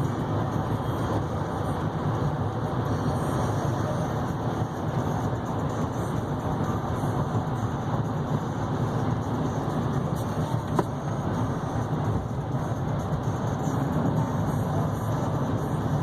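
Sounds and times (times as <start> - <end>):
engine and road noise in cab: 0.0 - 16.0.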